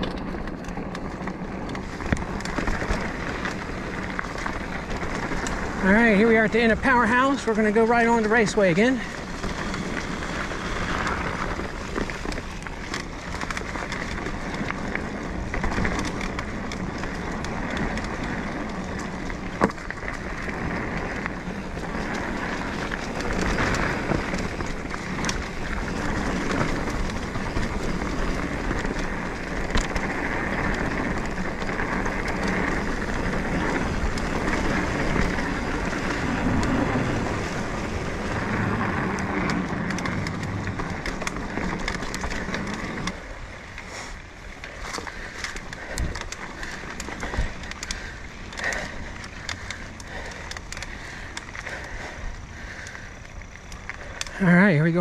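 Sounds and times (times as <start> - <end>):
bike rattling: 0.0 - 55.0
tyres rolling on dirt: 0.0 - 55.0.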